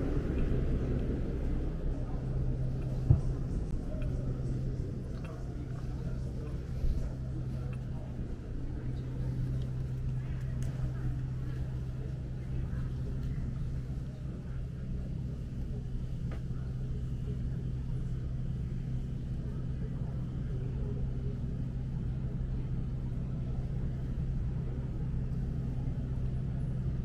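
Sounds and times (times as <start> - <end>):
low mechanical hum: 0.0 - 27.0
low rumble: 0.0 - 27.0.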